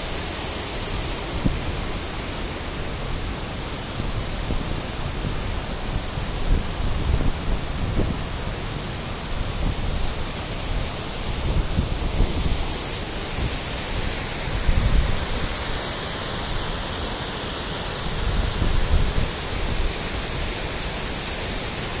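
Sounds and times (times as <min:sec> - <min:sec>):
water rushing over a weir: 0:00.0 - 0:22.0.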